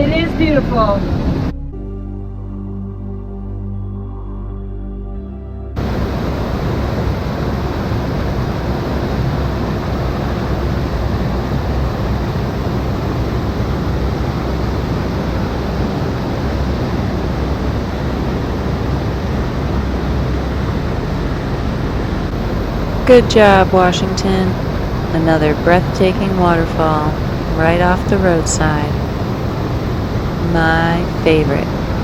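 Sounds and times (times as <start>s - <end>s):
waterfall rushing: 5.8s - 32.0s.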